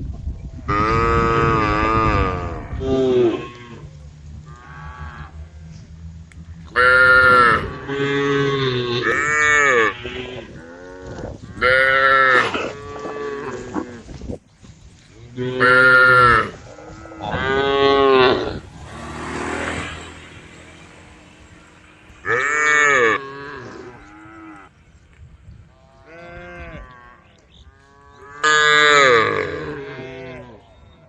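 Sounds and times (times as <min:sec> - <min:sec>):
cows mooing: 0:00.7 - 0:14.1, 0:15.2 - 0:24.8, 0:25.8 - 0:30.7.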